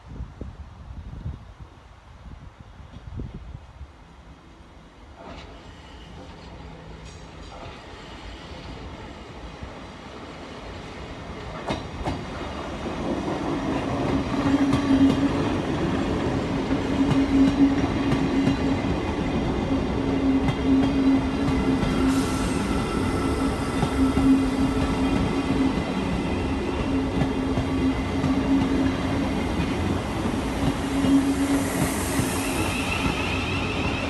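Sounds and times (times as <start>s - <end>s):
electric train passing: 4.3s - 34.0s.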